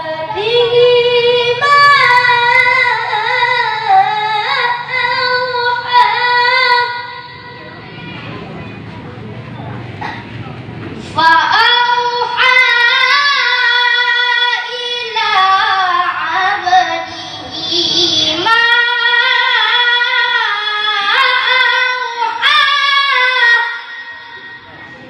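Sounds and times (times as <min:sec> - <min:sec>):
boy chanting melodic recitation: 0:00.0 - 0:08.8, 0:11.1 - 0:25.0.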